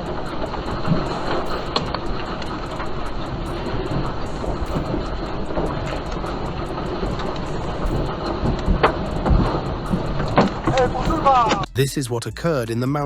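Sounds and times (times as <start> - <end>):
earthquake rumbling: 0.0 - 11.9.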